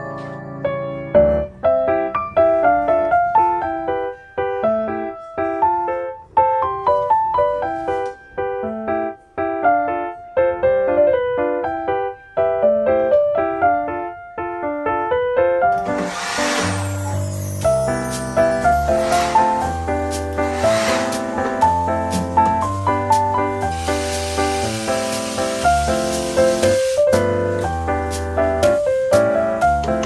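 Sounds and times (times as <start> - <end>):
light keyboard melody: 0.0 - 30.0.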